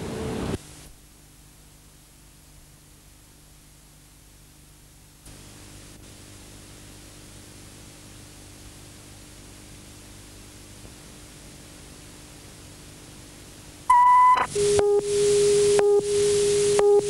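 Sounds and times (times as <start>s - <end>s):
low electrical hum: 0.0s - 17.0s
tape hiss: 0.0s - 17.0s.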